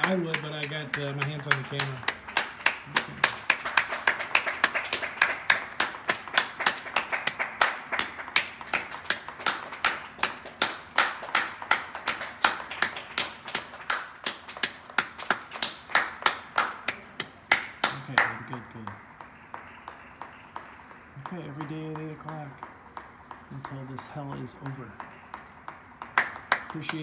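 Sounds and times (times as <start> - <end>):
distant crowd clapping: 0.0 - 27.0
sharp hand claps: 0.0 - 27.0.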